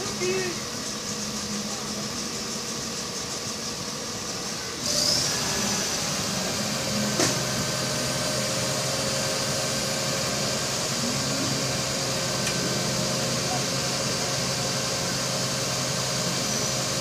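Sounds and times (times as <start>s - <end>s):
fire engine motor running: 0.0s - 17.0s
rising whine: 0.0s - 17.0s.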